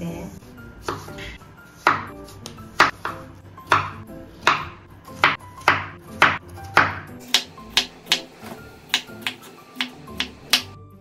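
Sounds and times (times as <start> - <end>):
knife chopping on wooden board: 0.8 - 10.8.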